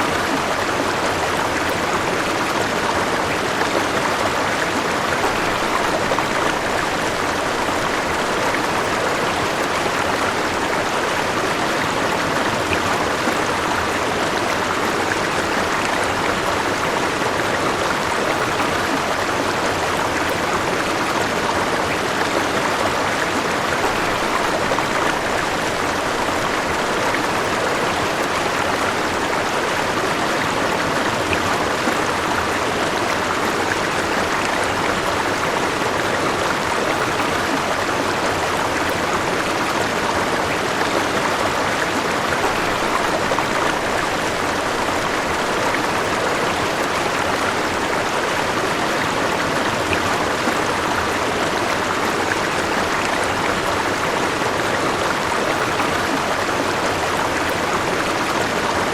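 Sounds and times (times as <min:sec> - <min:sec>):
river water flowing over rocks: 0:00.0 - 0:58.9.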